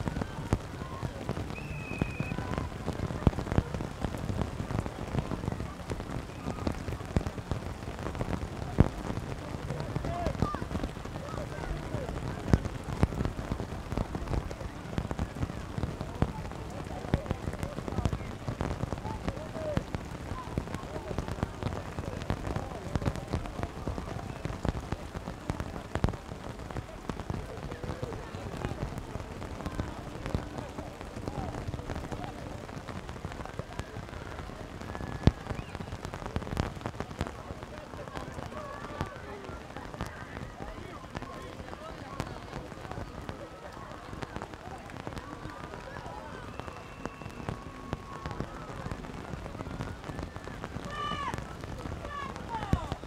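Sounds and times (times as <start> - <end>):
crackle of small clicks: 0.0 - 53.0
rain pattering: 0.0 - 53.0
raindrops tapping microphone: 0.0 - 53.0.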